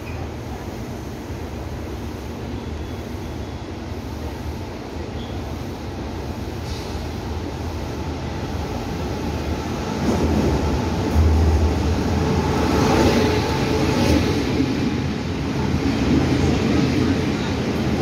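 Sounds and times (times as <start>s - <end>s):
train rolling rumble: 0.0s - 18.0s.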